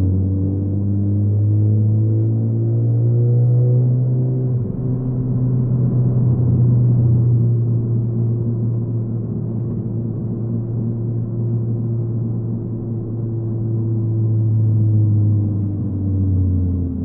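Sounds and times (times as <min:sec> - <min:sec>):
car exhaust drone from cabin: 0:00.0 - 0:17.0.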